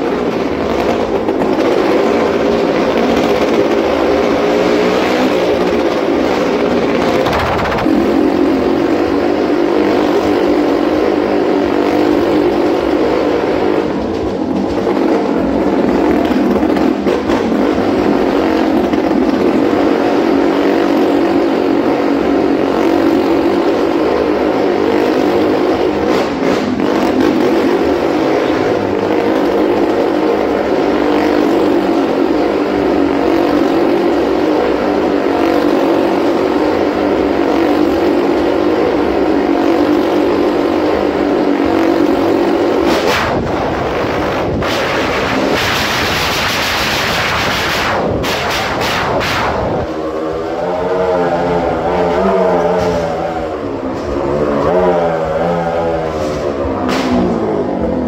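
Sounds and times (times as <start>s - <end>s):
motorcycle engine running loud: 0.0s - 58.0s.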